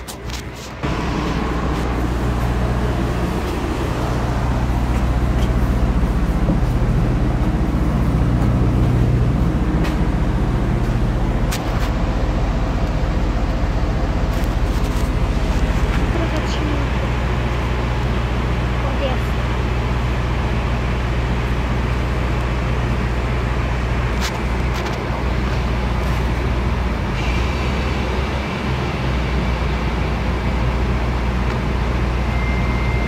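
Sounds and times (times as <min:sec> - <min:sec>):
bus engine drone: 0:00.0 - 0:33.0
road and tyre noise: 0:00.0 - 0:33.0.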